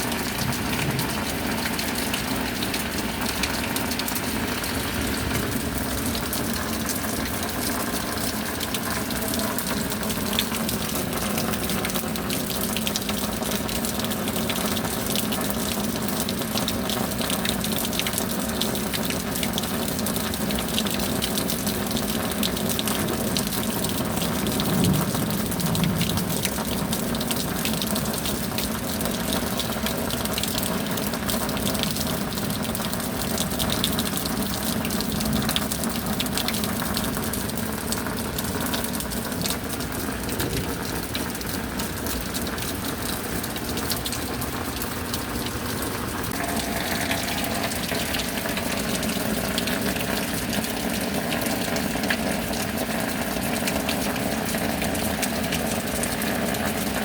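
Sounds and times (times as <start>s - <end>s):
heavy rain: 0.0s - 57.0s
raindrops ticking: 0.0s - 57.0s.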